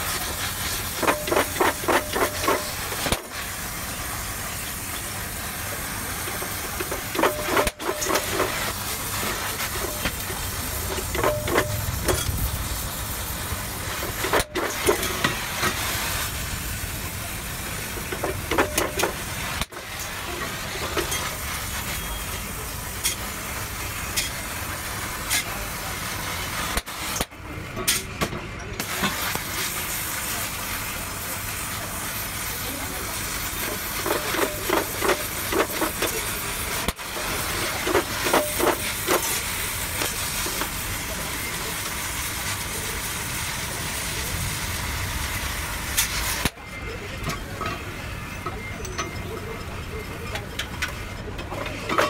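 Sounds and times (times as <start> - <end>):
welding torch hissing: 0.0 - 27.6, 28.8 - 47.0.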